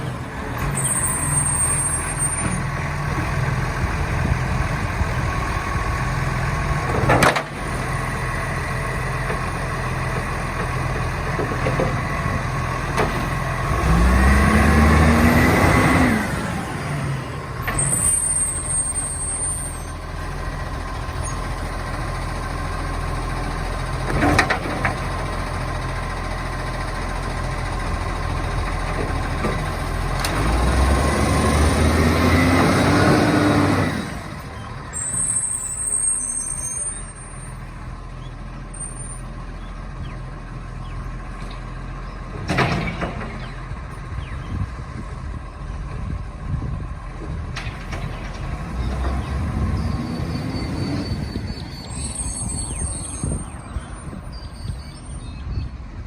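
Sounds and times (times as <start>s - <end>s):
garbage truck engine running: 0.0s - 56.0s.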